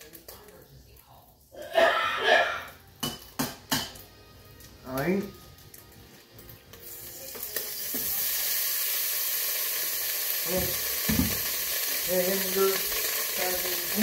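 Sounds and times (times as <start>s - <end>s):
meat sizzling in a pot: 1.9s - 14.0s.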